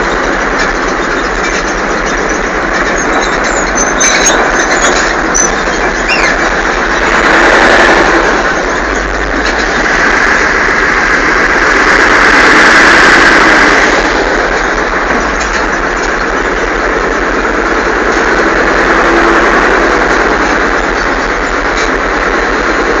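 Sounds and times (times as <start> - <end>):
radial engine and tracks running: 0.0 - 23.0.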